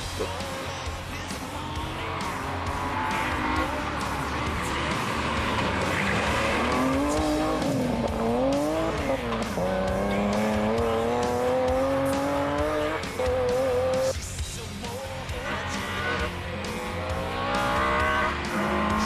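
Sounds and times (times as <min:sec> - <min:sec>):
rally car engine revving hard: 0:00.0 - 0:14.2, 0:15.3 - 0:19.0.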